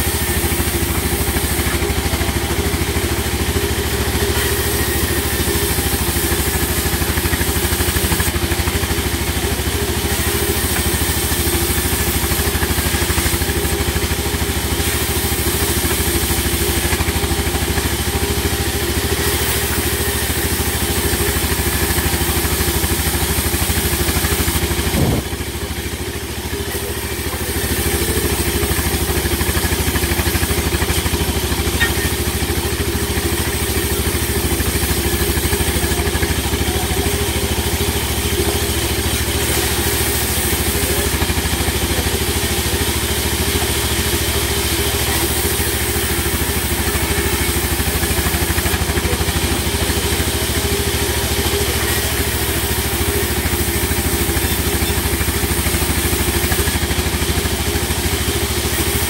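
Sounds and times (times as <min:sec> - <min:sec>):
band sawmill cutting timber: 0:00.0 - 0:59.0.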